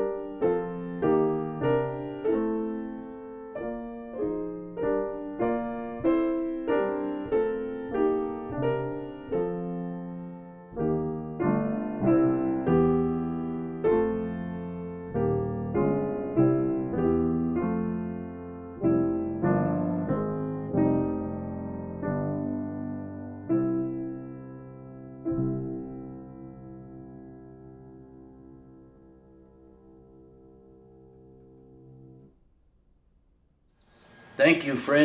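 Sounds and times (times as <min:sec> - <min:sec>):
slow gentle piano piece: 0:00.0 - 0:32.4.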